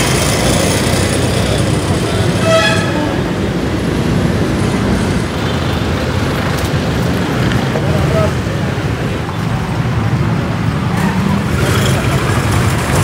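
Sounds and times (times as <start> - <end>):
vehicle driving on street: 0.0 - 13.0.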